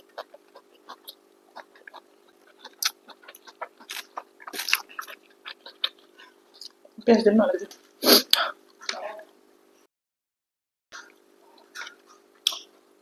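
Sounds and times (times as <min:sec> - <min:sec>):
people chewing food: 0:00.0 - 0:07.0, 0:07.7 - 0:09.4, 0:11.0 - 0:13.0.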